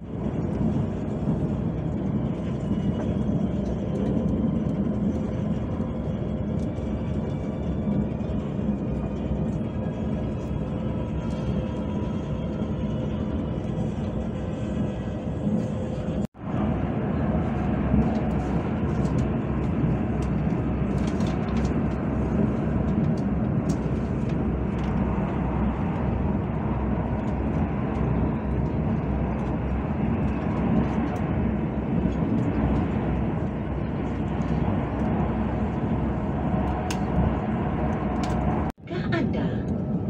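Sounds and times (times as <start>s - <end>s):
train running noise inside carriage: 0.0s - 40.0s.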